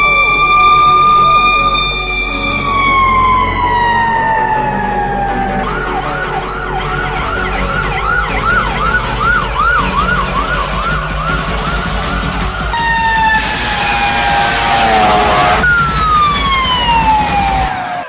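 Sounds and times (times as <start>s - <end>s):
fire engine siren: 0.0s - 18.0s
truck engine running: 0.0s - 18.0s.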